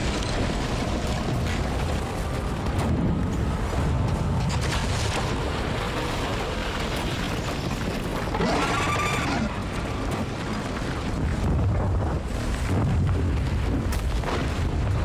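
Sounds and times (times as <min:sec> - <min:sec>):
falling ice rumbling and crashing: 0:00.0 - 0:15.0.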